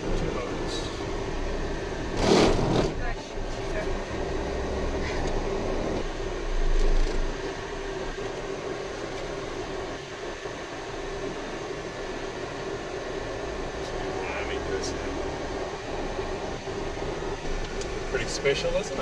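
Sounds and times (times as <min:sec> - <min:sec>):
car engine and road noise: 0:00.0 - 0:19.0
constant hum: 0:00.0 - 0:19.0.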